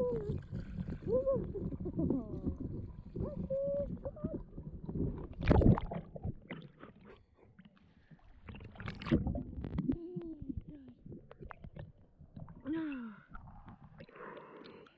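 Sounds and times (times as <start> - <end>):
water sloshing and splashing: 0.0 - 14.9.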